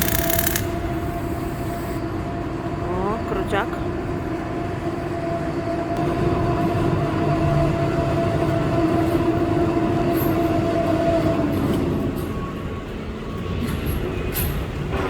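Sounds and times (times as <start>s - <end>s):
machinery droning hum: 0.0s - 15.0s.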